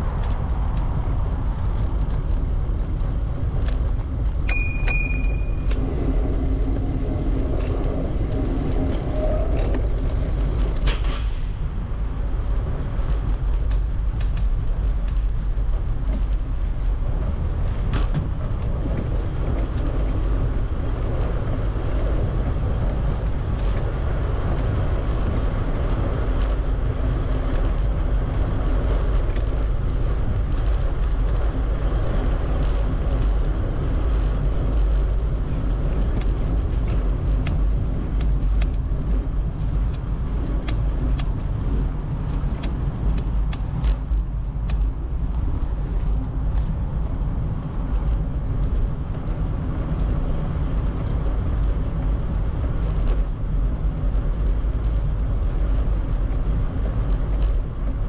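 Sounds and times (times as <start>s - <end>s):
road and tyre noise: 0.0s - 58.0s
wind buffeting microphone: 0.0s - 58.0s.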